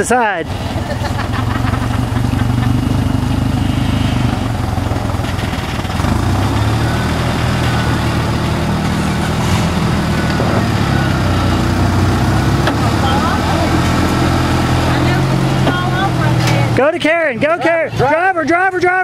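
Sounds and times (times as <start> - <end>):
vehicle engine at low revs: 0.0 - 18.1.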